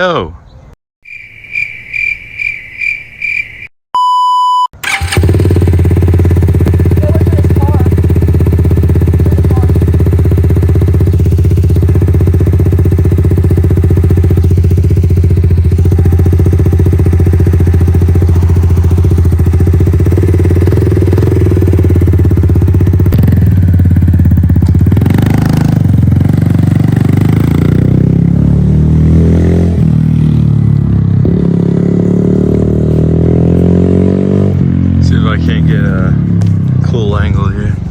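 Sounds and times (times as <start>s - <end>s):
dirt bike engine running: 4.8s - 37.3s.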